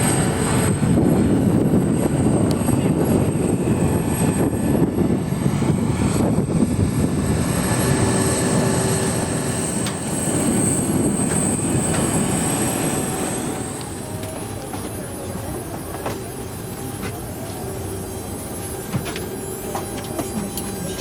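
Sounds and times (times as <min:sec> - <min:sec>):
jet engine rumble in cabin: 0:00.0 - 0:21.0.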